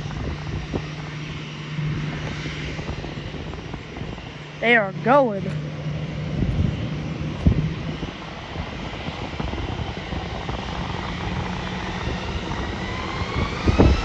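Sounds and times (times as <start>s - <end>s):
jet engines spooling up: 0.0s - 14.0s
wind on microphone: 0.0s - 14.0s.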